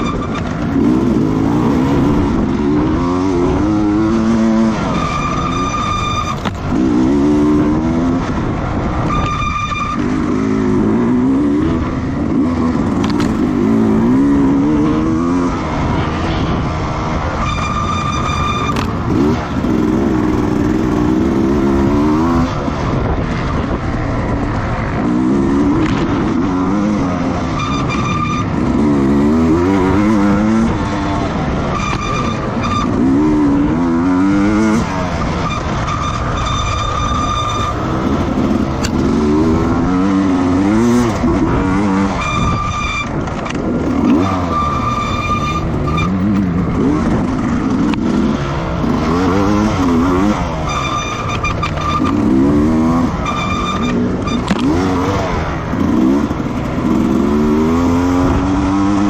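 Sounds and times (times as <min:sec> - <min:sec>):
racing motorcycle engines: 0:00.0 - 0:59.0.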